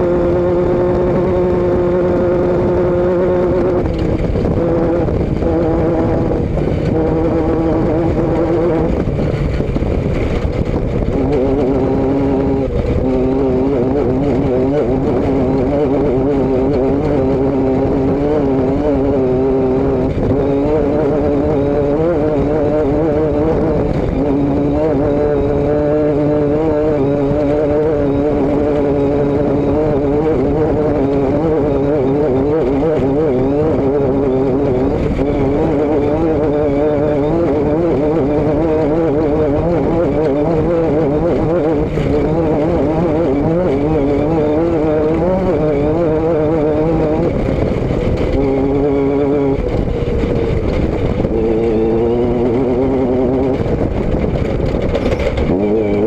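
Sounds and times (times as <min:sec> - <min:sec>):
vehicle engine running steadily: 0:00.0 - 0:56.0.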